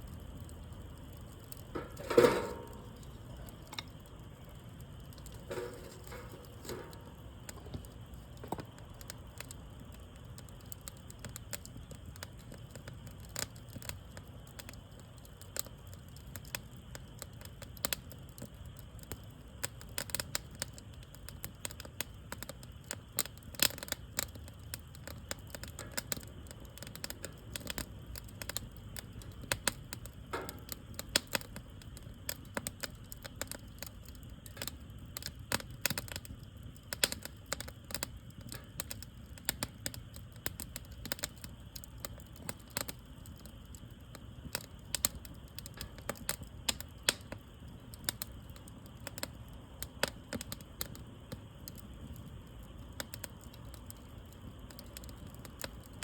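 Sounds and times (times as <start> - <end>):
sharp pops and snaps: 0.0 - 56.0
wood fire crackling: 0.0 - 56.0.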